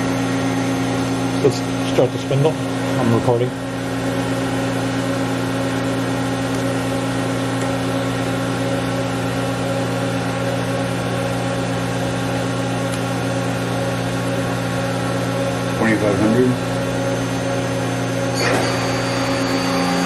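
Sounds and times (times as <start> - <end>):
machining center spindle hum: 0.0 - 20.0.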